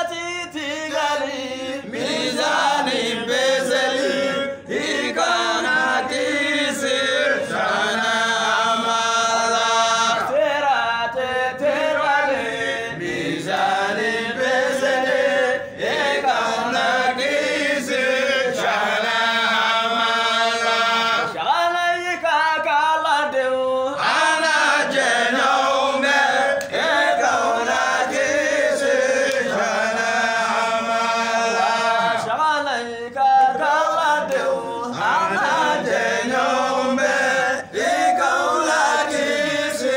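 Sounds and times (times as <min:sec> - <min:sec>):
men chanting together: 0:00.0 - 0:39.9.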